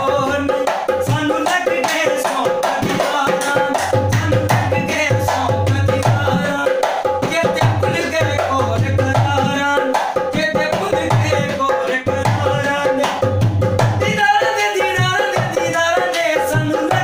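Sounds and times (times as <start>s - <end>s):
hand drum fast rhythm: 0.0s - 17.0s
man singing: 0.0s - 17.0s.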